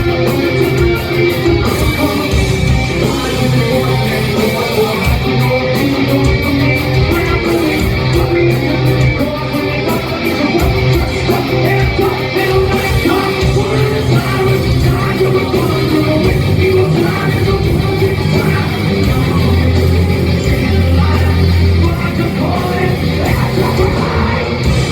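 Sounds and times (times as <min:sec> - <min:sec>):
distorted electric guitars: 0:00.0 - 0:24.9
metal band playing: 0:00.0 - 0:24.9
person singing: 0:00.0 - 0:24.9.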